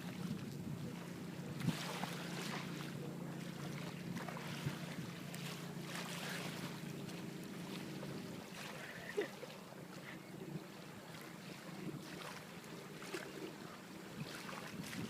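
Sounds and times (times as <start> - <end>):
boat motor humming: 0.0 - 15.0
faint wind: 0.0 - 15.0
water noise: 0.0 - 15.0.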